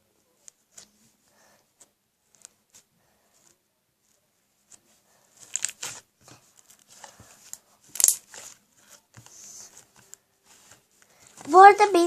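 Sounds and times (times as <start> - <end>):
crinkly crackling rustles: 1.8 - 12.0.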